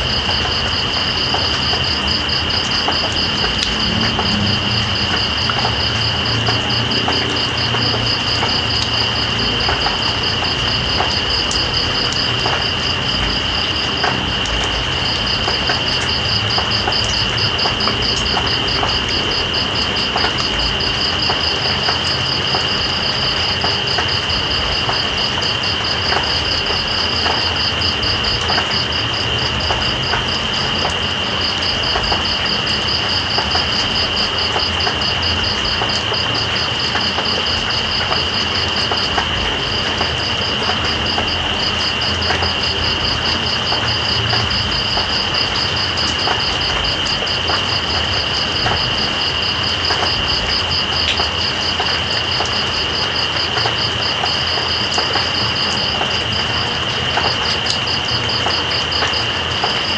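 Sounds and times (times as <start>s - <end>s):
rain hiss: 0.0s - 59.9s
raindrops pattering: 0.0s - 59.9s.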